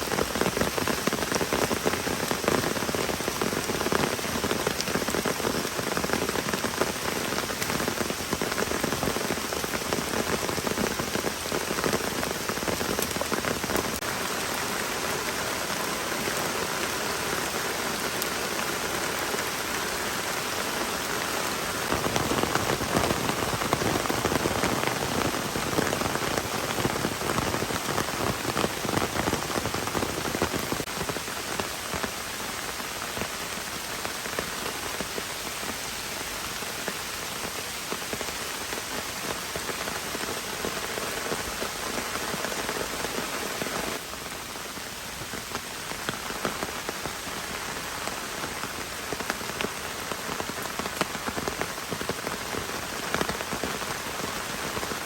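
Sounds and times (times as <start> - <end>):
heavy rain on a surface: 0.0 - 55.0.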